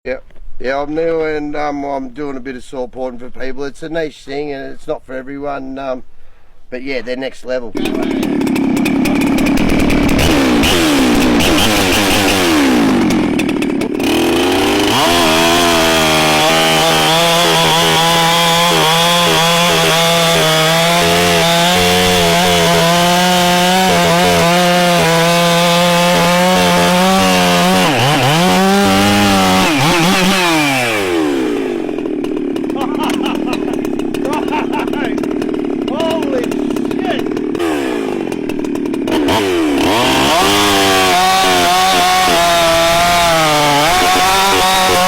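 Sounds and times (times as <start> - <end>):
chainsaw cutting wood: 7.7 - 45.0.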